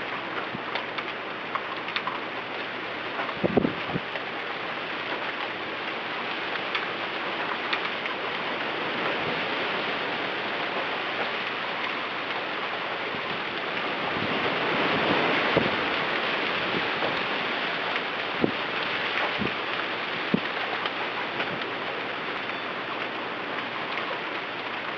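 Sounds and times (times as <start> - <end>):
rain and wind hiss: 0.0 - 24.9
raindrops tapping: 0.0 - 24.9.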